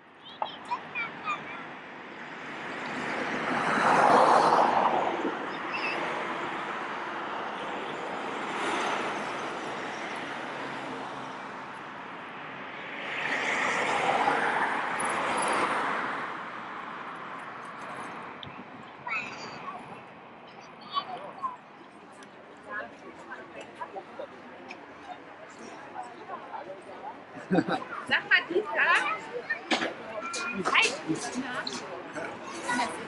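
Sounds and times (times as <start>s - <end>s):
vehicles passing close by: 0.0s - 33.0s.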